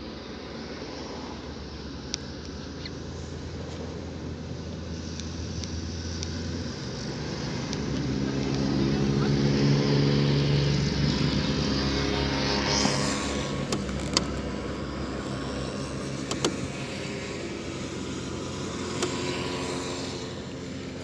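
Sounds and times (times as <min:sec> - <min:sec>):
car running from inside cabin: 0:00.0 - 0:21.0.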